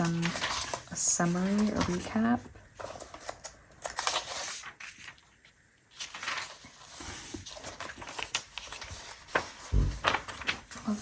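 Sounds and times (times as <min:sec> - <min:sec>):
paper pages turning: 0:00.0 - 0:11.0.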